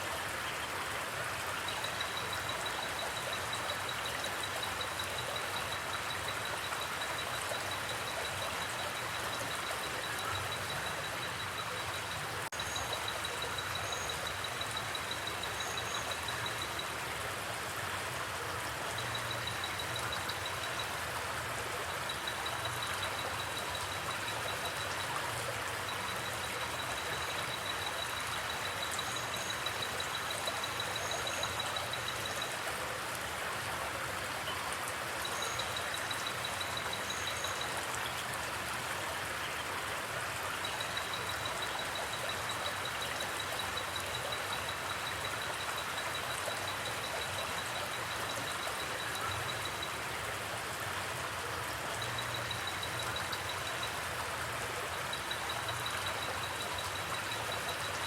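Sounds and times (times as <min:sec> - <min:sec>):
flowing creek water: 0:00.0 - 0:58.0.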